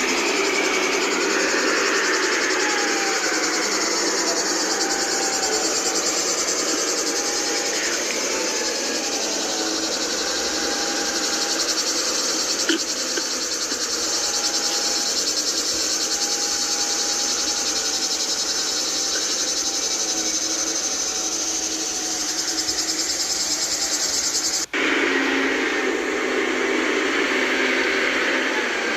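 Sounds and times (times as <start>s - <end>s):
insects buzzing: 0.0s - 28.9s.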